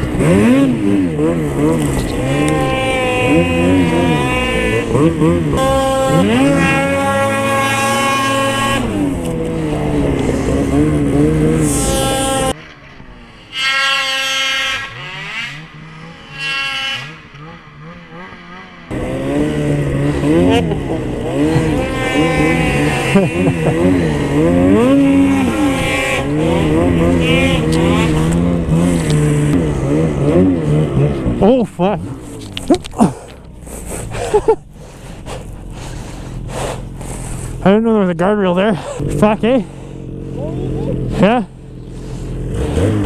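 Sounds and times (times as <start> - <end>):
snowmobile engine revving: 0.0 - 43.0.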